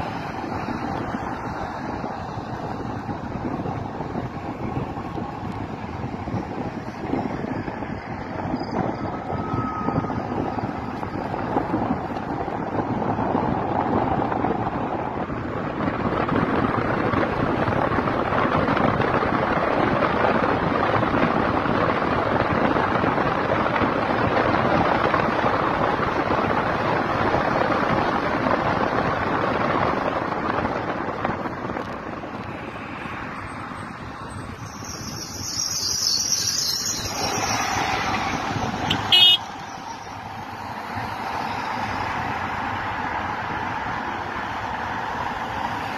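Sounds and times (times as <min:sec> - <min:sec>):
wind and road noise from car: 0:00.0 - 0:45.9.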